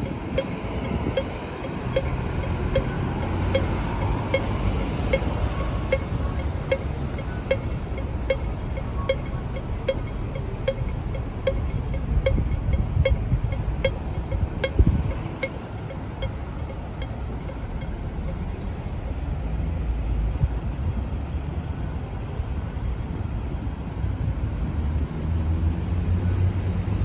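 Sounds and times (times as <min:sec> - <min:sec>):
crossing signal ticking: 0:00.0 - 0:22.2
city traffic rumble: 0:00.0 - 0:27.0.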